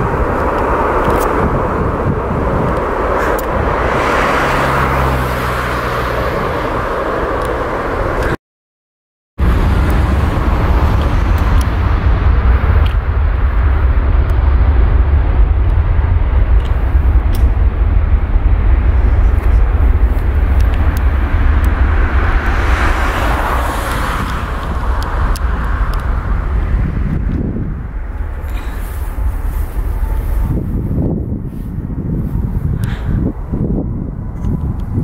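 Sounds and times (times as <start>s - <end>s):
jet engines at takeoff power: 0.0s - 8.4s, 9.4s - 35.0s.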